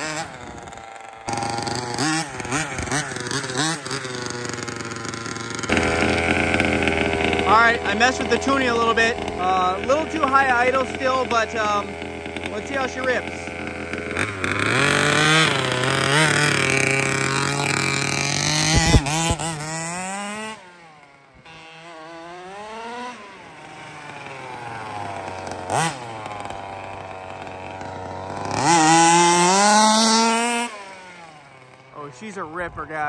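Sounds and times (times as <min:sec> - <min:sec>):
small two-stroke engine revving: 0:00.0 - 0:33.0.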